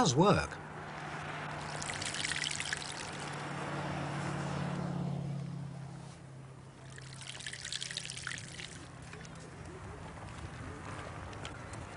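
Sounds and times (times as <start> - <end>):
car passing: 0.0 - 11.9.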